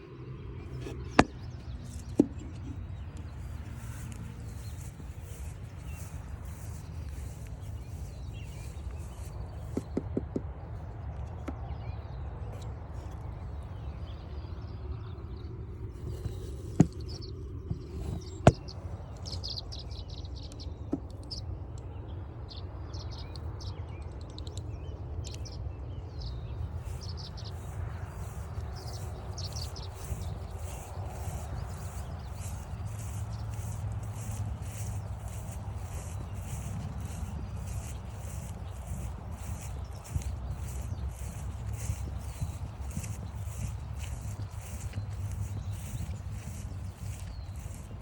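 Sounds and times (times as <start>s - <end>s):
songbirds chirping and singing: 0.0s - 48.0s.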